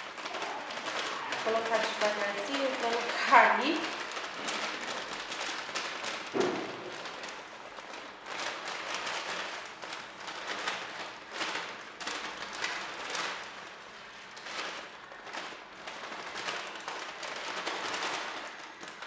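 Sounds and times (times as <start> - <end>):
potato sticks crackling onto dish: 0.0 - 19.0.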